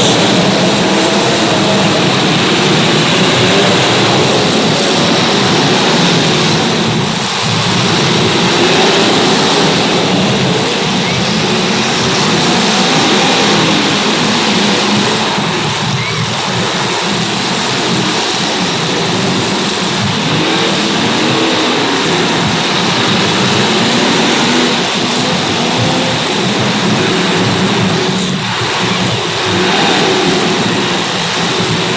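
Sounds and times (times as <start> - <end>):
racing car engines revving: 0.0 - 31.9.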